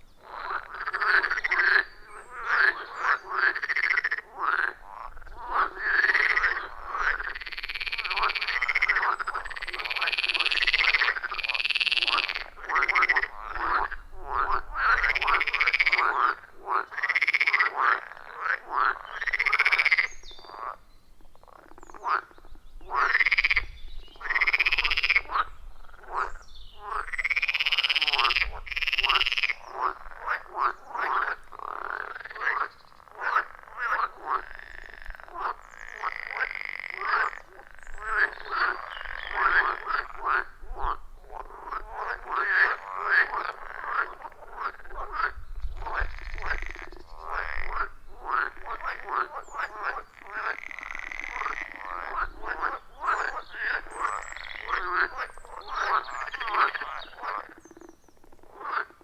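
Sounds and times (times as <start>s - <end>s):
frogs croaking: 0.0s - 59.0s.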